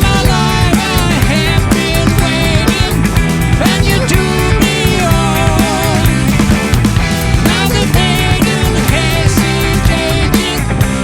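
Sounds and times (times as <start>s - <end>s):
bass: 0.0s - 11.0s
drums steady beat: 0.0s - 11.0s
held keyboard chords: 0.0s - 11.0s.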